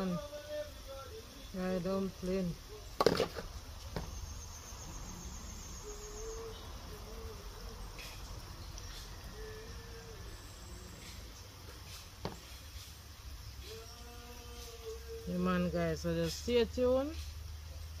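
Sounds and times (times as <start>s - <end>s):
insect chirping: 0.0s - 18.0s.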